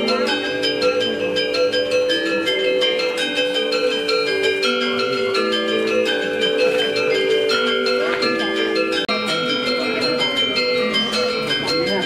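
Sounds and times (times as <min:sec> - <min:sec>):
gamelan metallophones ringing: 0:00.0 - 0:12.0.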